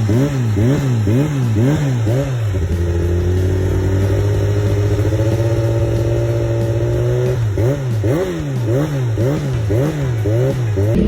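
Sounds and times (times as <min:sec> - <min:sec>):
racing motorcycle exhaust: 0:00.0 - 0:11.0.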